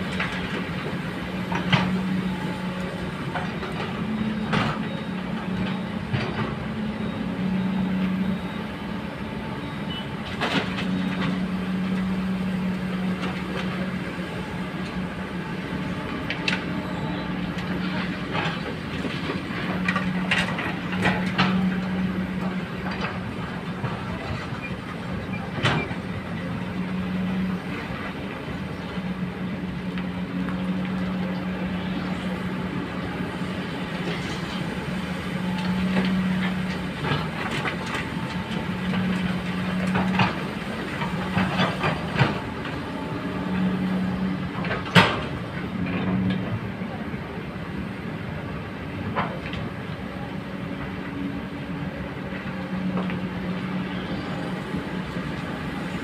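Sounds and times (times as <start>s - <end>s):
excavator engine drone: 0.0s - 56.0s.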